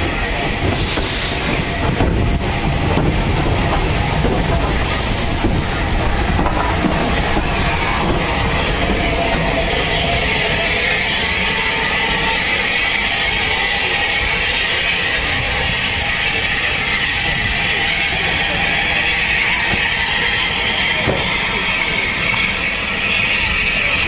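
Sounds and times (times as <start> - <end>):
train rumbling and rattling: 0.0 - 24.0.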